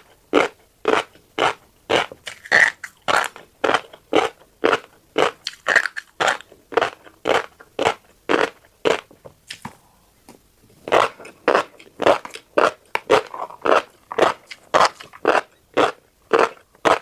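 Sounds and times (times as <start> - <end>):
chewing crunchy seeds: 0.0 - 9.8, 10.8 - 17.0.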